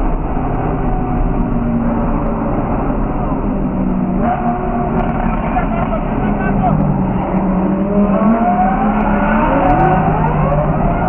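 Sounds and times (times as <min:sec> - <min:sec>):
car engine and exhaust: 0:00.0 - 0:11.0.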